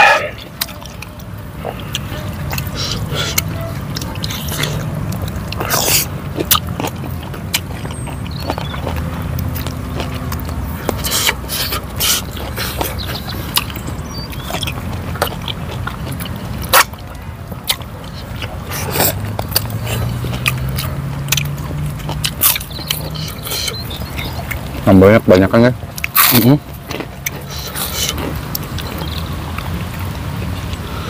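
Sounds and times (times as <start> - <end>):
chewing and lip smacks: 0.0 - 31.0
sharp bite: 1.6 - 24.6, 26.0 - 29.7.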